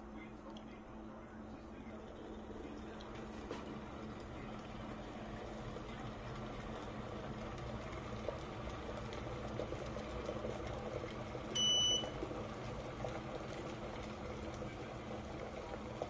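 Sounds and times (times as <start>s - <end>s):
electric kettle heating water: 0.0s - 16.0s.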